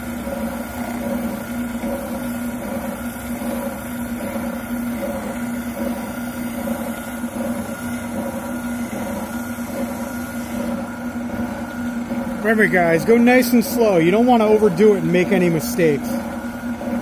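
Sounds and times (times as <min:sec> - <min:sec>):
oscillating sander humming: 0:00.0 - 0:17.0.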